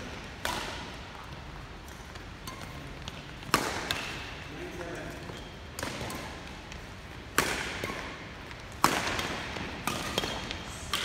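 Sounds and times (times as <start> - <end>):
racquet hitting shuttlecock: 0.1 - 4.4, 5.2 - 11.0.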